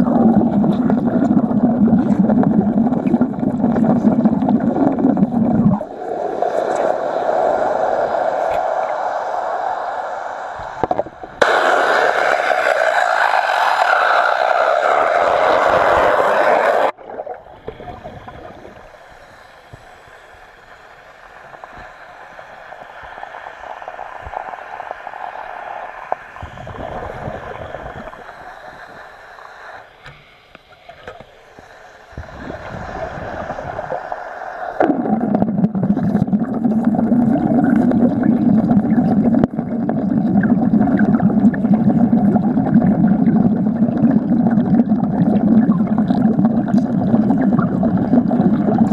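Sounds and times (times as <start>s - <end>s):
underwater arc welding: 0.0s - 48.9s.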